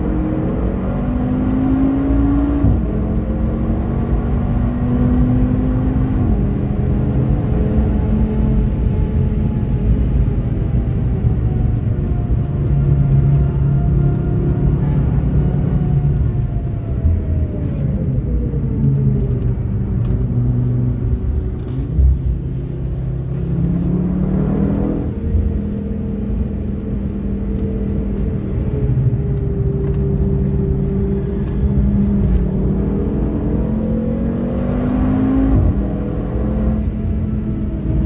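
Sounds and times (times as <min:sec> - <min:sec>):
car engine from inside cabin: 0:00.0 - 0:38.0.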